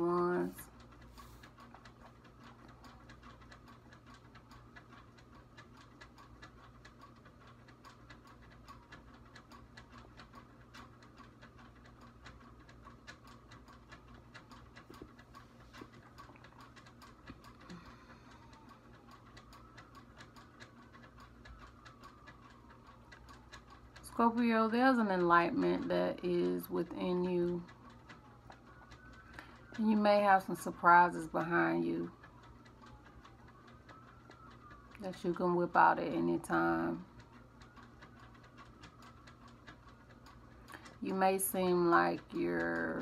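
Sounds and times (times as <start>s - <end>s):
clock ticking: 0.0s - 43.0s
low steady hum: 0.0s - 43.0s.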